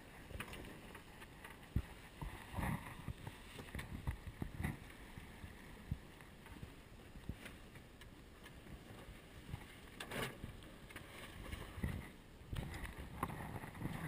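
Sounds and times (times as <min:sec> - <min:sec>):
wind and water rushing: 0:00.0 - 0:14.0.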